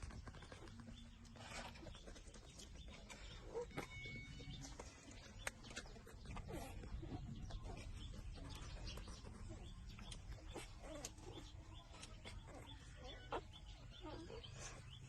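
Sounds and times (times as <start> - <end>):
puppies squeaking and grunting: 0.0 - 15.0
puppies suckling clicks: 0.0 - 15.0.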